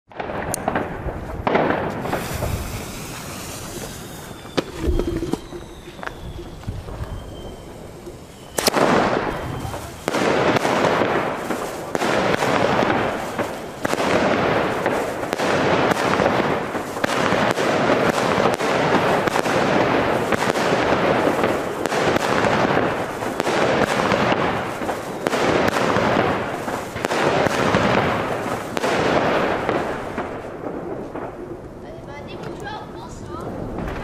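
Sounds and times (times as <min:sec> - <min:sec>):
firework crackling: 0:00.1 - 0:34.0
fireworks shots firing: 0:00.1 - 0:34.0.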